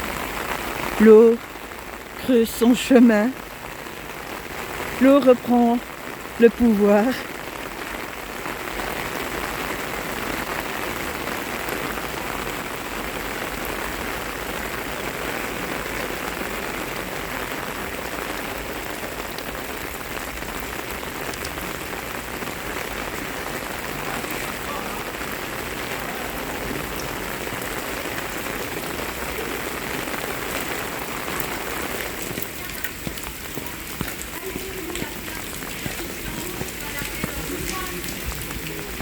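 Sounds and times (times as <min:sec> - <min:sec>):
falling rain: 0:00.0 - 0:39.0
storm runoff rushing down street: 0:00.0 - 0:39.0.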